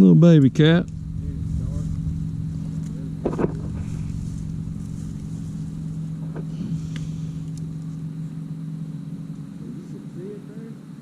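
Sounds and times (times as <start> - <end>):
low rumble: 0.0 - 10.3
low engine-like hum: 0.0 - 11.0.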